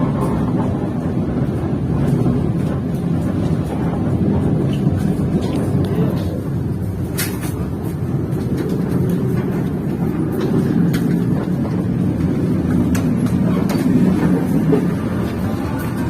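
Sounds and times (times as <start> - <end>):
irregular track clicks: 0.0 - 16.0
train rumbling on track: 0.0 - 16.0.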